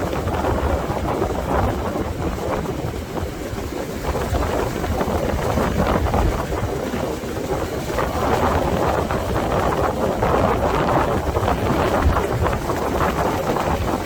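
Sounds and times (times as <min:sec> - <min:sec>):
ocean surf washing: 0:00.0 - 0:14.0
wind buffeting microphone: 0:00.0 - 0:14.0.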